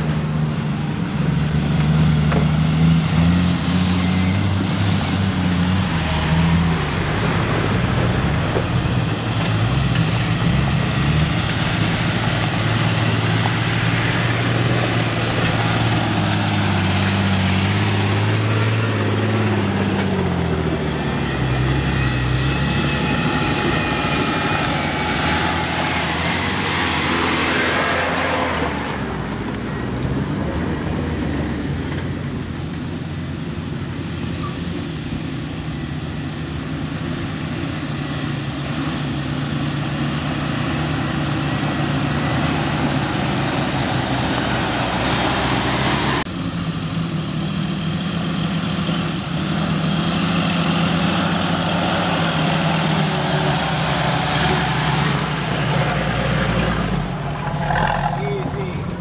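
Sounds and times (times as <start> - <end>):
off-road vehicle engines crawling: 0.0 - 59.0.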